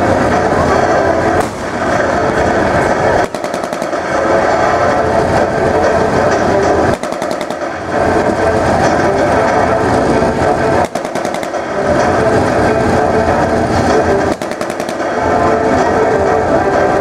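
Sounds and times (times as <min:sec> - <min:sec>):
diesel engines droning: 0:00.0 - 0:17.0
tracks clattering: 0:00.0 - 0:17.0.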